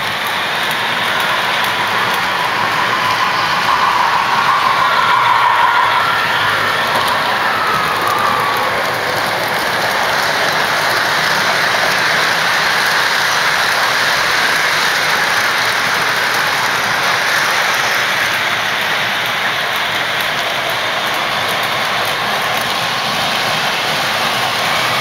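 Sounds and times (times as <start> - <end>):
model train motors whirring: 0.0 - 25.0
model train wheels rattling on rails: 0.0 - 25.0.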